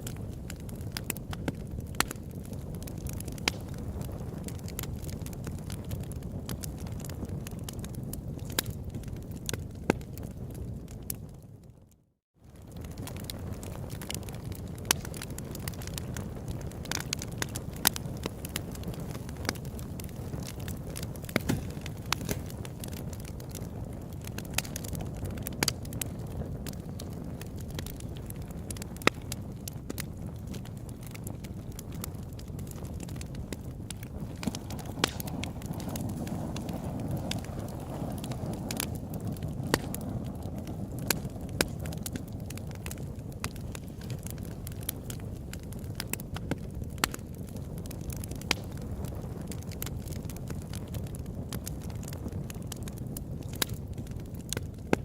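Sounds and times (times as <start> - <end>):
campfire crackling and popping: 0.0 - 55.0
low roar of burning fire: 0.0 - 55.0.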